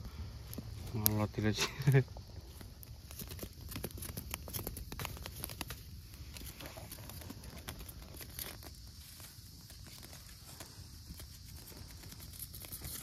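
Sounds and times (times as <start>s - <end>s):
twig fire crackling and snapping: 0.0s - 13.0s
burning sticks being poked: 0.4s - 13.0s.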